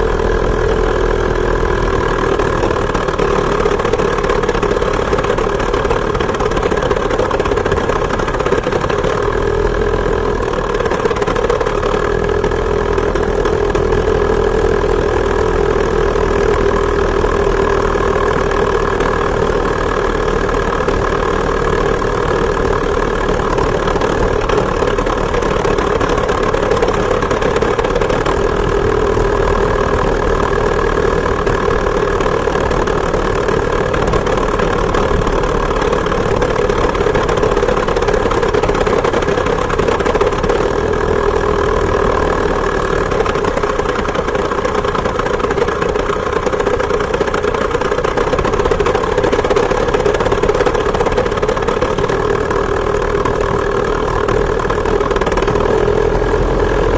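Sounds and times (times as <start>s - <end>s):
two-stroke engine running: 0.0s - 56.9s.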